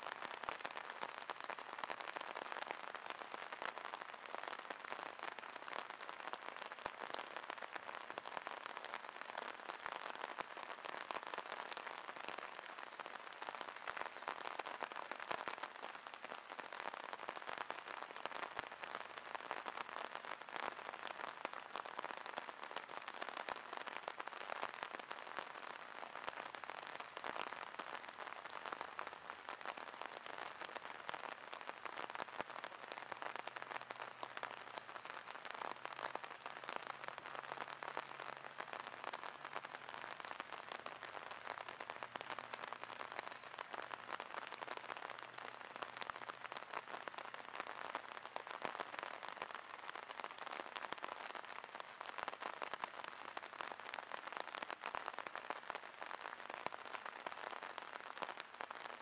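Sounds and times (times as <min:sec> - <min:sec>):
rain falling on water and grass: 0:00.0 - 0:59.0.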